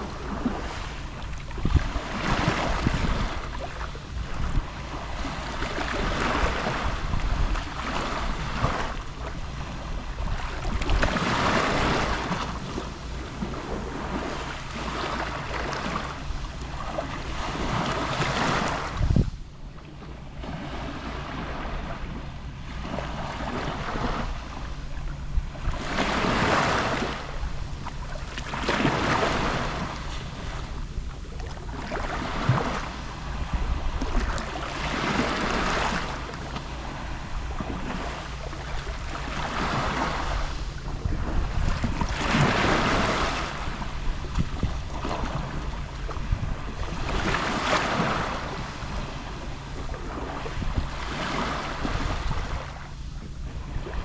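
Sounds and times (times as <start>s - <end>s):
sea waves lapping on shore: 0.0s - 54.0s
steady low rumble: 0.0s - 54.0s.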